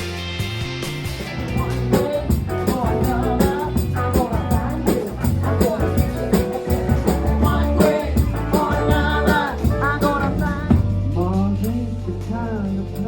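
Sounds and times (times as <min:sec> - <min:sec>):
drums keeping beat: 0:00.0 - 0:13.0
live rock and roll band: 0:00.0 - 0:13.0
person singing: 0:01.3 - 0:13.0.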